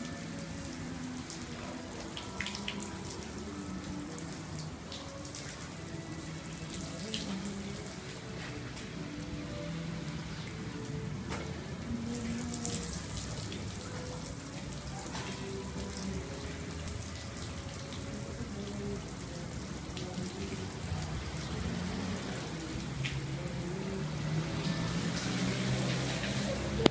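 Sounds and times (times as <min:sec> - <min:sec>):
hose water spraying on car: 0:00.0 - 0:26.9.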